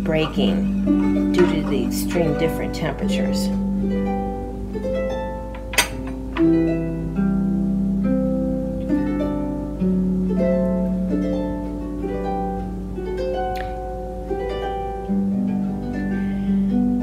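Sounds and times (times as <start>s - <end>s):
solo harp music: 0.0s - 17.0s.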